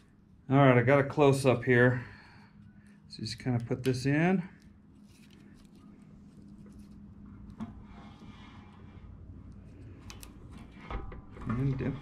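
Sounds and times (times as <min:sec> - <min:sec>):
faint handling noise: 0:00.0 - 0:12.0.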